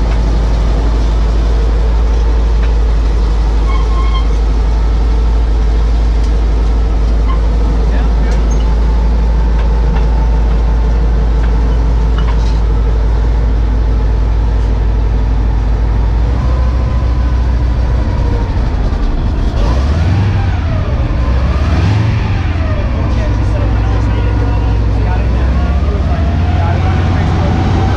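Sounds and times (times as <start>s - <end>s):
radial engine running and revving: 0.0s - 27.9s.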